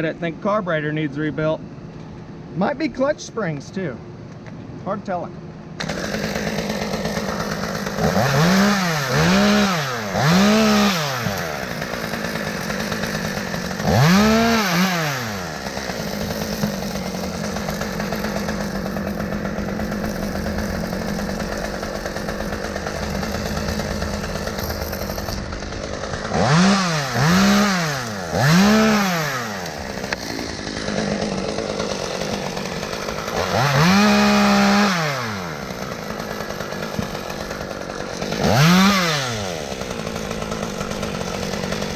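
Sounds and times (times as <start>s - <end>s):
chainsaw idling and revving: 4.9s - 41.9s.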